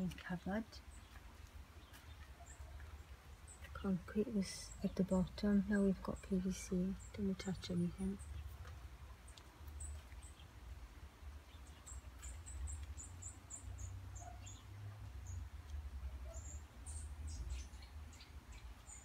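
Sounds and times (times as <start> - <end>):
small bird chirping: 0.0 - 10.6, 11.4 - 15.6, 16.2 - 19.0.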